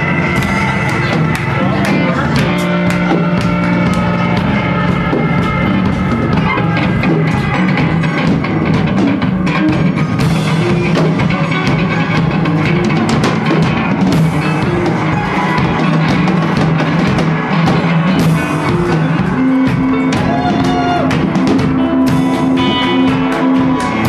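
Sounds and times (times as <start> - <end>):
drums hitting: 0.0 - 24.0
guitar: 0.0 - 24.0.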